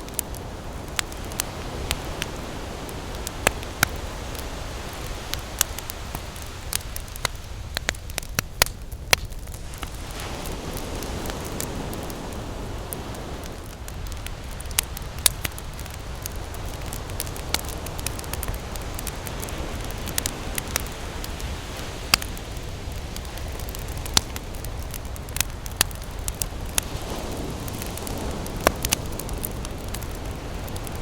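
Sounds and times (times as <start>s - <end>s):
campfire wood crackling and popping: 0.0s - 31.0s
ocean surf rumble: 0.0s - 31.0s.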